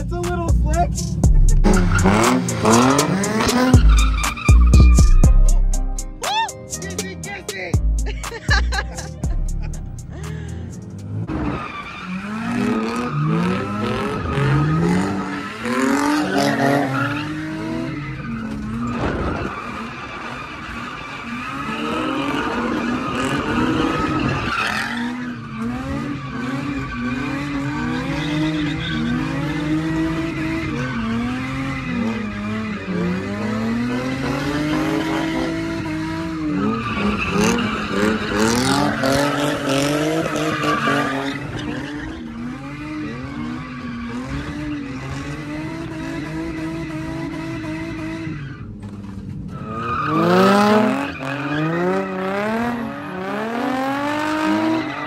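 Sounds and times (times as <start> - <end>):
car engine revving: 0.0 - 6.0, 6.8 - 55.0
tyres squealing on wet asphalt: 1.6 - 5.2, 11.3 - 46.0, 46.6 - 55.0.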